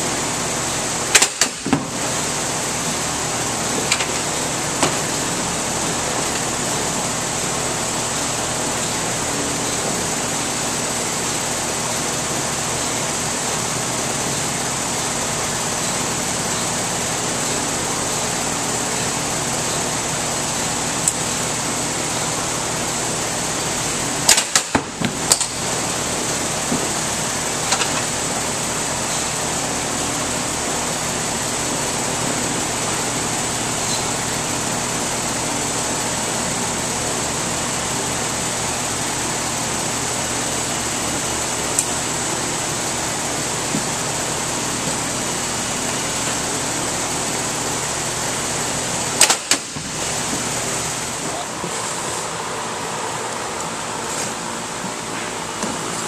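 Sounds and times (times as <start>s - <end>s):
ventilation hum: 0.0s - 56.0s.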